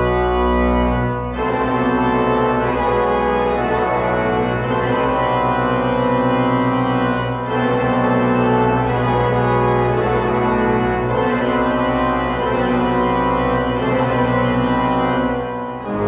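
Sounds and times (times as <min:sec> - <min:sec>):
church organ playing: 0:00.0 - 0:16.0.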